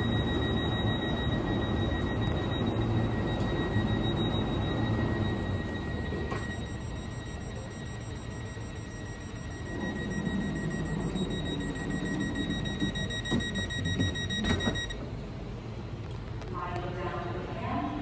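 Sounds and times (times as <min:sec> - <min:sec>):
train door warning beep: 0:00.0 - 0:15.1.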